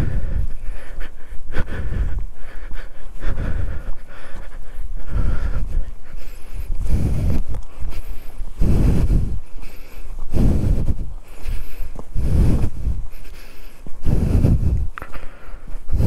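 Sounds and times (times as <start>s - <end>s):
person panting heavily: 0.0s - 16.0s.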